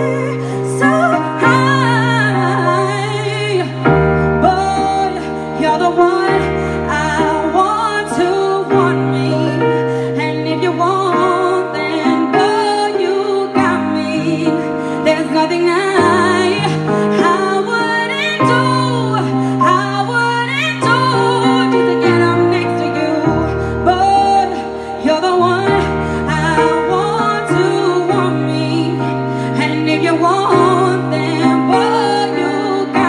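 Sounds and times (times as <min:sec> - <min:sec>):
keyboard chords: 0:00.0 - 0:33.0
woman singing into microphone: 0:00.0 - 0:33.0.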